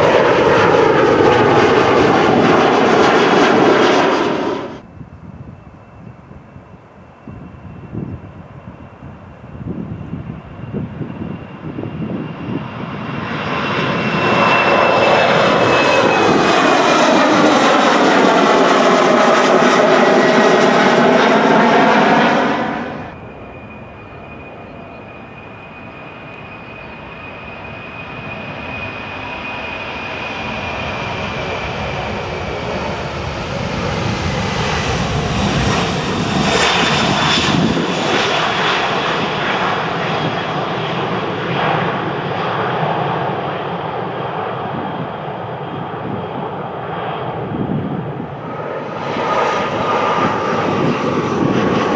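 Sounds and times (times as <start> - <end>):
jet airliner engines whining: 0.0 - 51.9.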